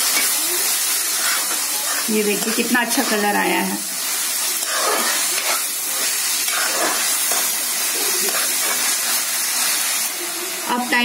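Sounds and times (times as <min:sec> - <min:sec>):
spatula stirring in a wok: 0:00.0 - 0:10.1
vegetables sizzling in a wok: 0:00.0 - 0:11.0.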